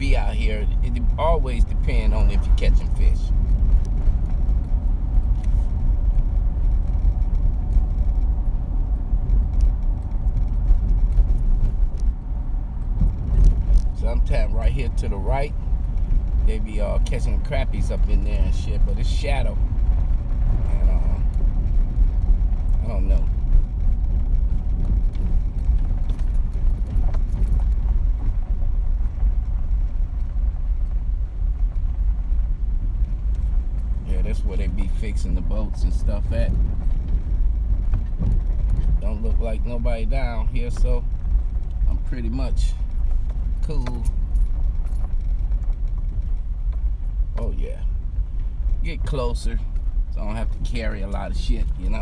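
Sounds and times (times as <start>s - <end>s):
car engine rumble: 0.0s - 52.0s
road noise: 0.0s - 52.0s.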